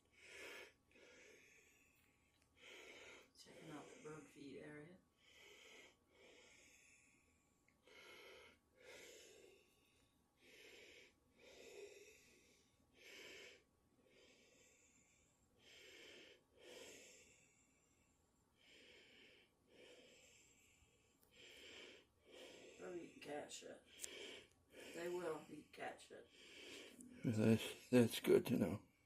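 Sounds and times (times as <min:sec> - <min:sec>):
person breathing heavily: 0:00.0 - 0:28.0.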